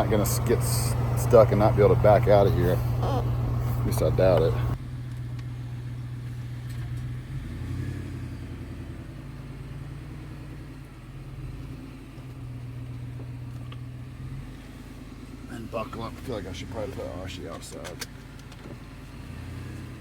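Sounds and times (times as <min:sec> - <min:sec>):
pickup engine humming at low revs: 0:00.0 - 0:20.0.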